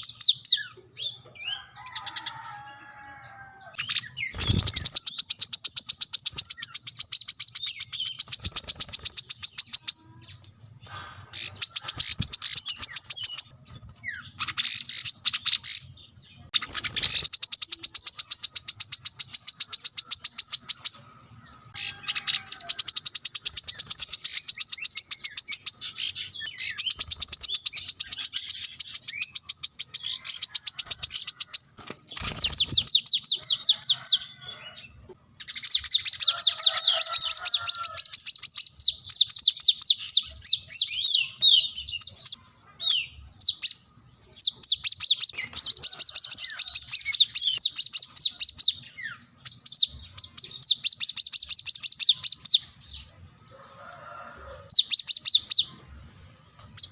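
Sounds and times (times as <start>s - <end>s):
bird twittering trills: 0.0s - 55.8s.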